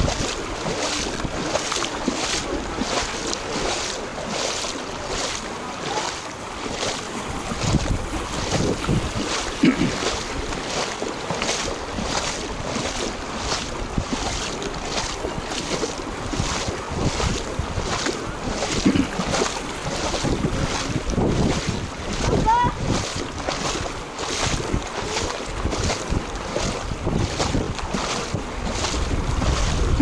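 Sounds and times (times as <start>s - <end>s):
footsteps splashing through water: 0.0s - 30.0s
wind on microphone: 0.0s - 30.0s.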